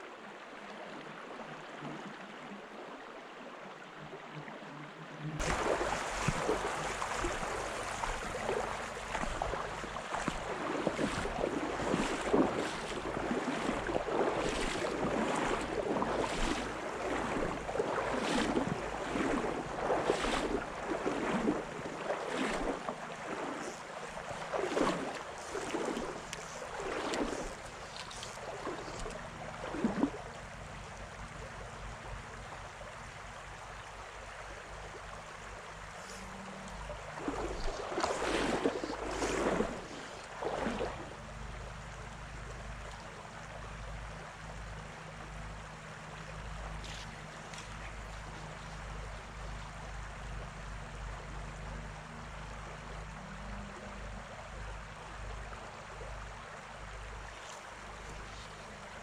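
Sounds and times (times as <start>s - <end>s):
river water rushing and sloshing: 0.0s - 59.0s.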